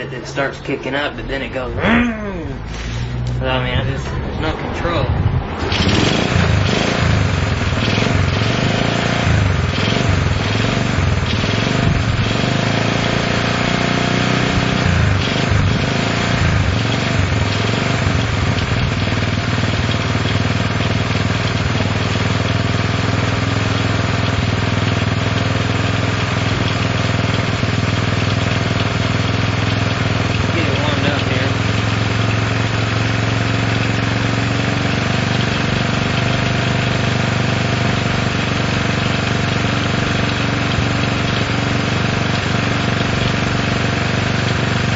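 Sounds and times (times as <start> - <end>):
small engine revving: 1.8 - 44.9.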